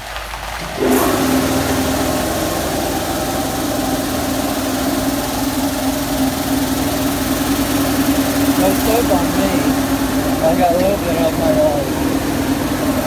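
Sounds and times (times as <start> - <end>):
high-pressure water spray hissing: 0.0 - 13.0
pump hum: 0.0 - 13.0.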